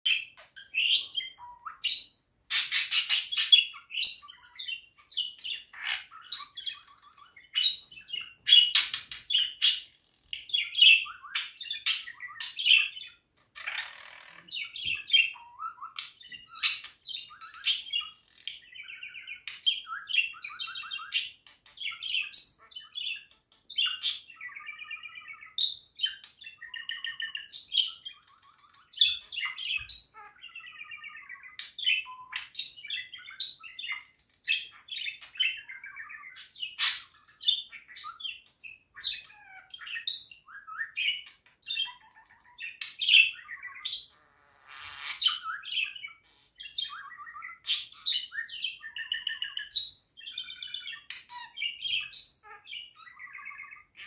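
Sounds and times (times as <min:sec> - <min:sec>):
budgerigar chirping and warbling: 0:00.1 - 0:54.0.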